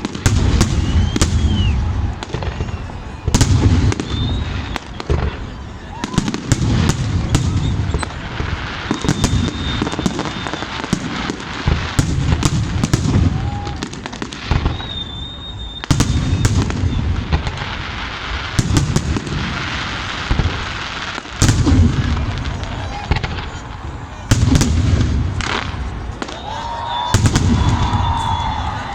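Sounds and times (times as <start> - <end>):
fireworks crackling: 0.0 - 28.9
fireworks cracks and booms: 0.0 - 28.9
high firework whistle: 0.0 - 28.9.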